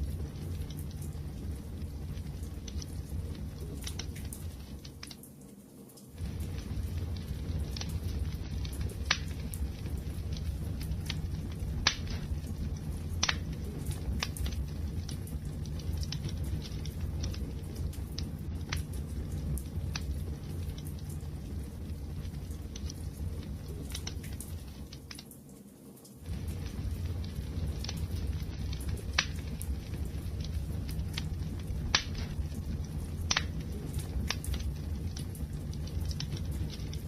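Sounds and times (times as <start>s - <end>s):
low rumble of flames: 0.0s - 37.0s.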